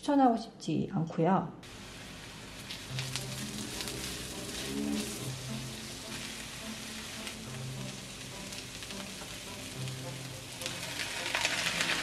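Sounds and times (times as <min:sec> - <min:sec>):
vegetables sizzling in a wok: 0:01.6 - 0:12.0.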